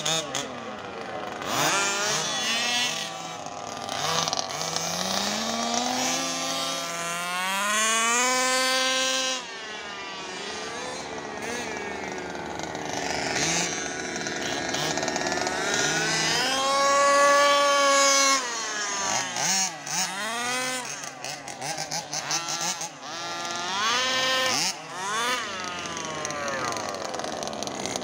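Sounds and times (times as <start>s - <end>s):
model car engine revving: 0.0s - 28.0s.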